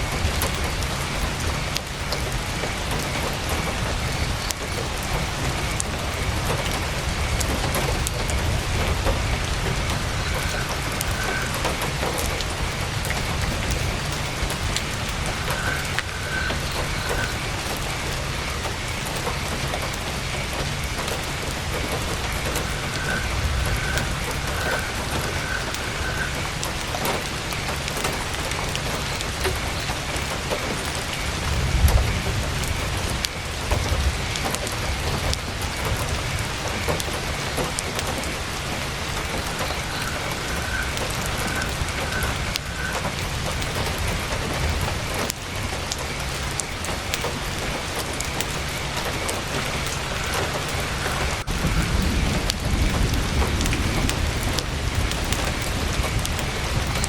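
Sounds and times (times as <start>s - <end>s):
campfire crackling: 0.0s - 57.0s
heavy rain drumming on tent canvas: 0.0s - 57.0s.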